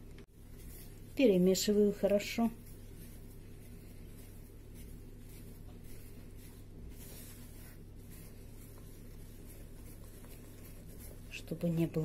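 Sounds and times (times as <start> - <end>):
steady low hum: 0.0 - 12.0
whisk scraping batter in bowl: 0.4 - 12.0.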